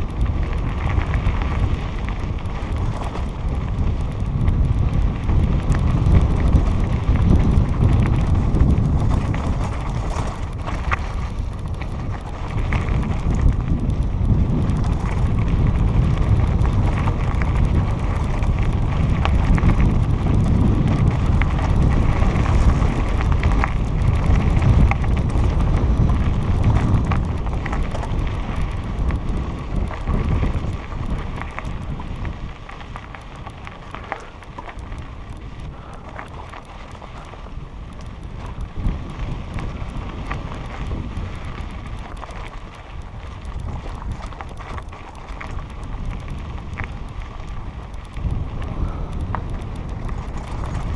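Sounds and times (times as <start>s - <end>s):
bike tyres rattling over stones: 0.0s - 50.9s
wind buffeting microphone: 0.0s - 50.9s.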